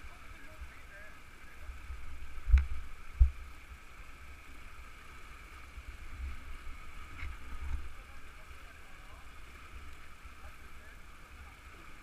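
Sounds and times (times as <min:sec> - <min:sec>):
river water over rocks: 0:00.0 - 0:12.0.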